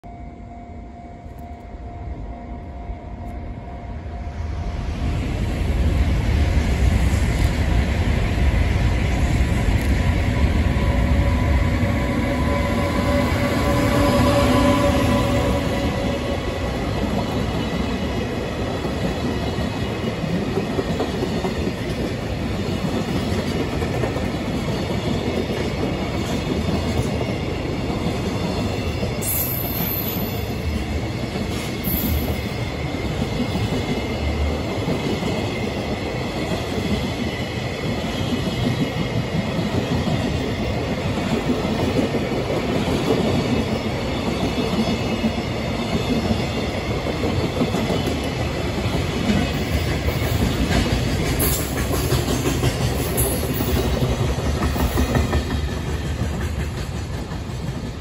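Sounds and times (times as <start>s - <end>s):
freight train rolling past: 0.1s - 58.0s.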